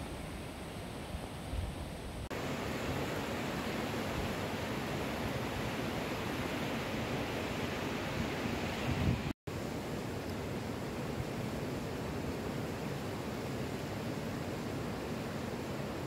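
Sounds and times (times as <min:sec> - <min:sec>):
fast river rushing: 0:02.3 - 0:16.0.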